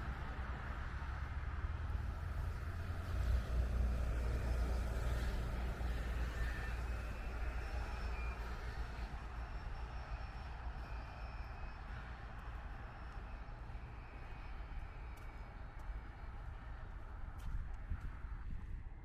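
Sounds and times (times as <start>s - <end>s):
low rumble of passing vehicles: 0.0s - 19.0s.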